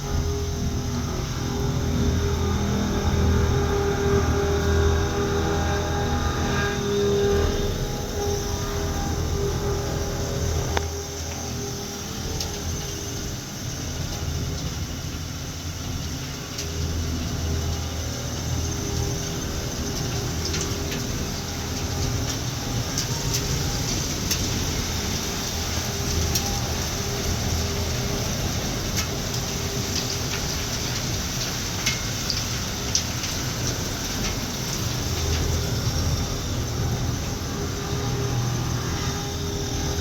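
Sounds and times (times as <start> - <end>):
low drone: 0.0 - 40.0
wood-shavings machine humming: 0.0 - 40.0.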